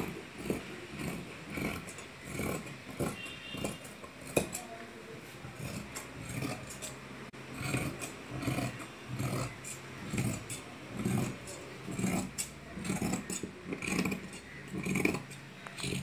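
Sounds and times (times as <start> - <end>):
scissors cutting fabric: 0.0 - 4.8, 5.5 - 16.0.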